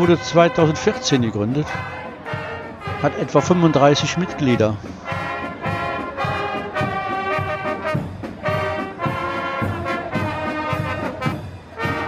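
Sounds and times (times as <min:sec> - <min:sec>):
brass marching band playing: 0:00.0 - 0:12.0.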